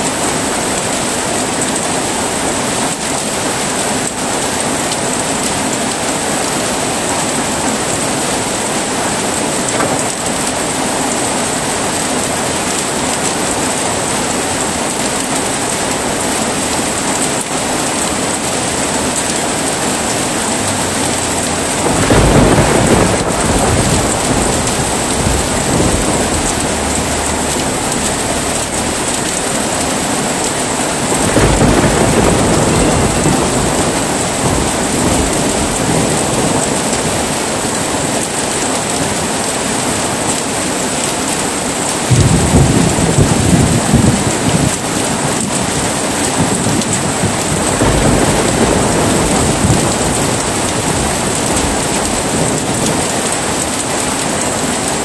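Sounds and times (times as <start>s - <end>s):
thunder rumbling: 0.0s - 39.6s, 41.5s - 55.0s
heavy rain falling: 0.0s - 55.0s.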